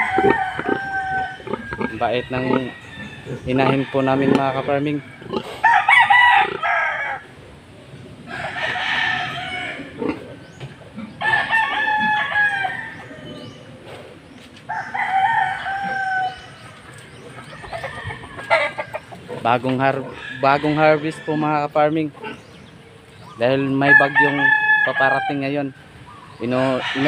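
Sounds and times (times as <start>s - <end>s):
roosters crowing: 0.0s - 27.0s.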